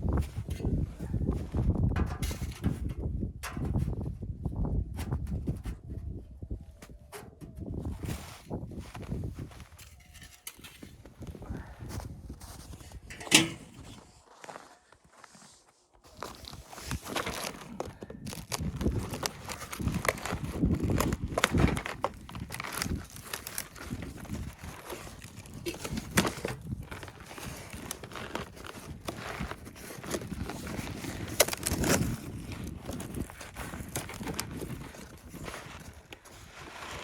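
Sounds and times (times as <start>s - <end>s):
crunching and rustling: 6.9s - 37.0s.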